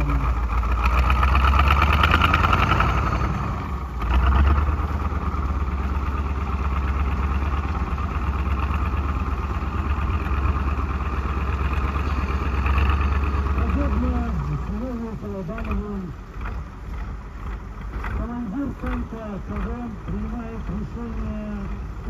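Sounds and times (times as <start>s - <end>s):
diesel tank engine rumbling: 0.0s - 22.0s.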